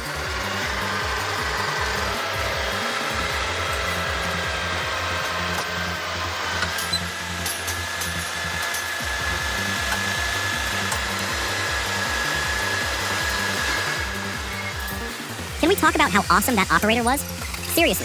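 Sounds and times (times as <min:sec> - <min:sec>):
motor high whine: 0:00.0 - 0:18.0.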